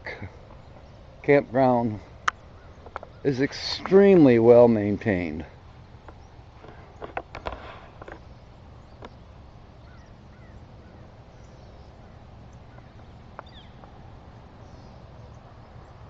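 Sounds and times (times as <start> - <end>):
distant bird chirps: 0.0 - 16.0
low background hum: 0.0 - 16.0.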